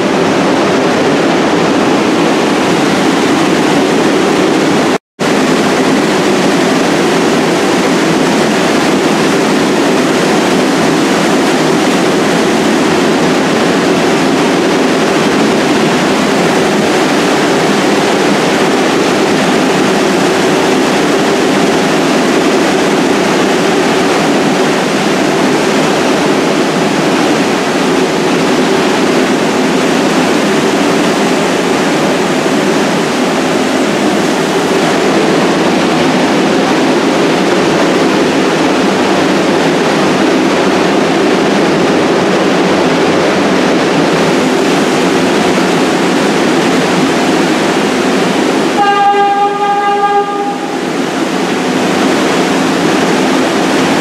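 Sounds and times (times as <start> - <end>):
subway train equipment humming: 0.0 - 54.0.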